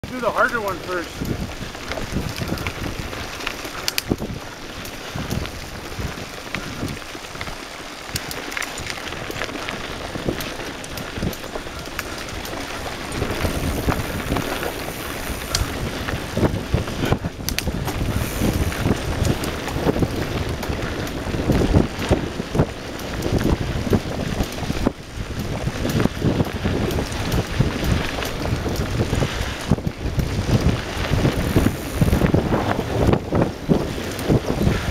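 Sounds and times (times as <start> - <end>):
bike clicks and rattles: 0.0 - 34.9
tyres crunching over gravel: 0.0 - 34.9
wind buffeting microphone: 0.0 - 34.9.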